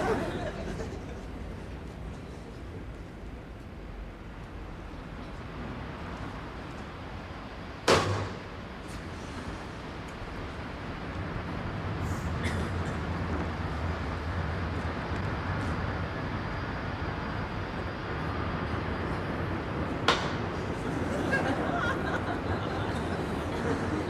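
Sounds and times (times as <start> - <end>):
low urban rumble with hum: 0.0 - 24.0.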